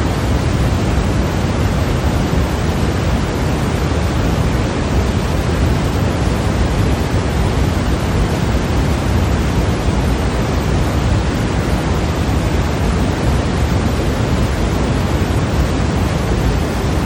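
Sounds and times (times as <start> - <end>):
white noise hiss: 0.0 - 17.0.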